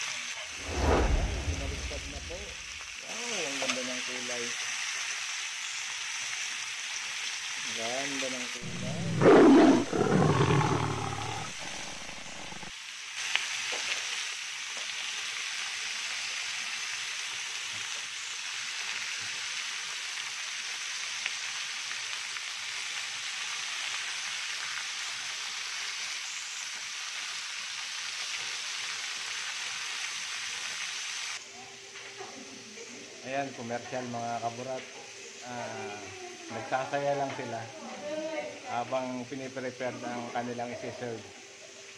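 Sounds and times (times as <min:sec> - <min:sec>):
meat sizzling in a grill pan: 0:02.0 - 0:41.9.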